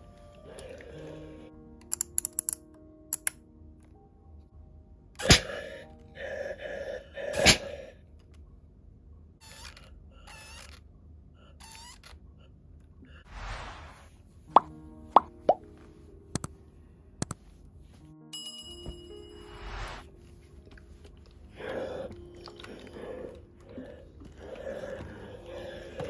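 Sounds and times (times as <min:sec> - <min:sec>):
soft background music: 0:00.0 - 0:09.2, 0:14.0 - 0:26.0.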